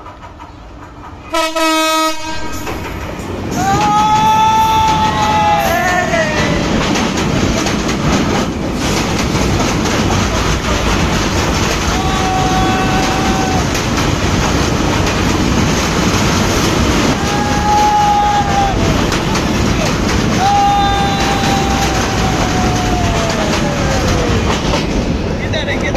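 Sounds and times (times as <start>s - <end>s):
train wheels clattering on rails: 0.0s - 25.9s.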